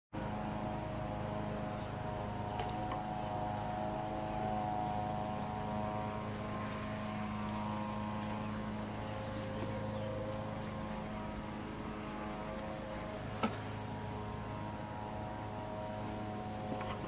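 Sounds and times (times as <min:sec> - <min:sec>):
engine droning steadily: 0:00.1 - 0:17.0.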